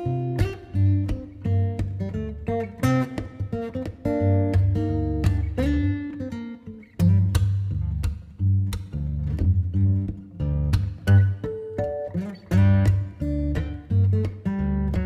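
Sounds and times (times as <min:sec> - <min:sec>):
plucked acoustic guitar: 0:00.0 - 0:15.0.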